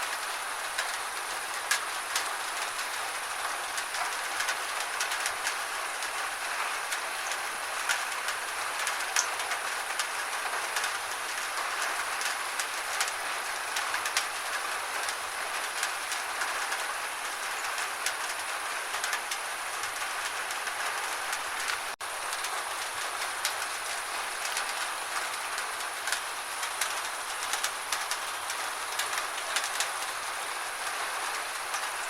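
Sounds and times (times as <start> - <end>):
gentle rain hiss: 0.0 - 32.0
raindrops ticking: 0.0 - 32.0.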